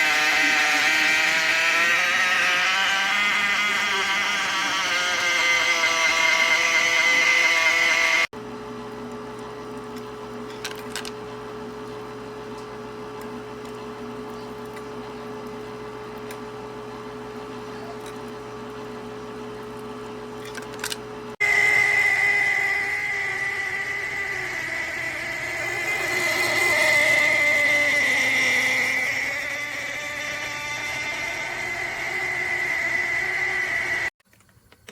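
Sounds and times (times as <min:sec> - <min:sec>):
steady hum: 0:00.0 - 0:08.9, 0:13.0 - 0:34.1
ice maker motor whine: 0:00.0 - 0:34.2.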